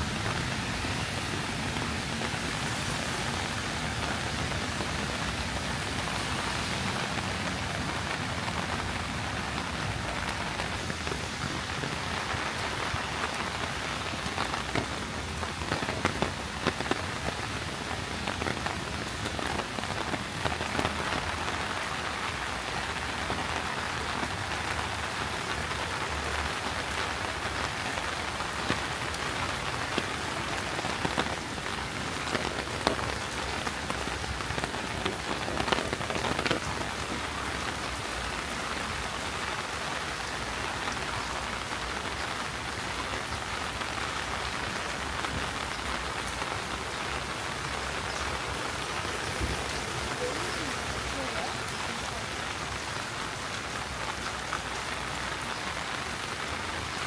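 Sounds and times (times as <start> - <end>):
water drips and pats: 0.0 - 55.1
steady rain falling: 0.0 - 57.0.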